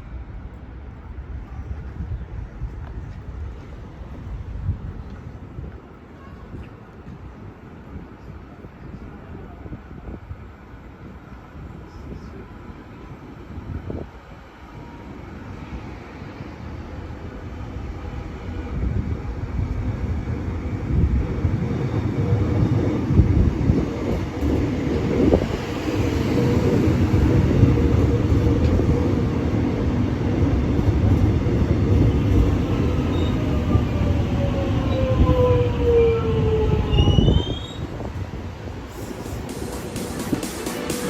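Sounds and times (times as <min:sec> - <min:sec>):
electric train rumbling on rails: 0:00.0 - 0:41.0.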